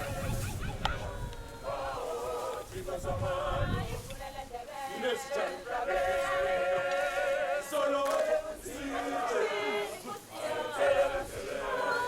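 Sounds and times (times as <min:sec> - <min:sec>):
choir chanting: 0:00.0 - 0:12.0.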